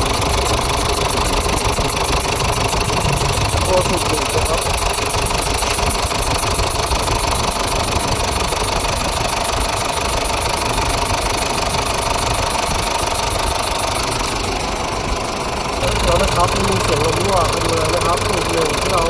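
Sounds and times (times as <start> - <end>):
diesel engine idling: 0.0 - 19.0
fast even ticking: 0.0 - 19.0.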